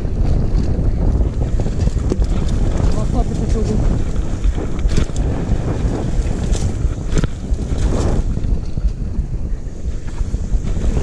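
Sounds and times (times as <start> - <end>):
bike knocks and rattles: 0.0 - 11.0
wind buffeting microphone: 0.0 - 11.0.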